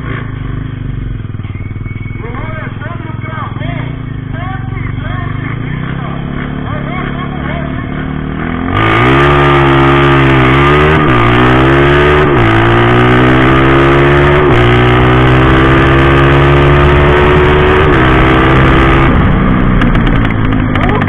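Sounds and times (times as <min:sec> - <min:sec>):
motorcycle engine at full throttle: 0:00.0 - 0:21.0.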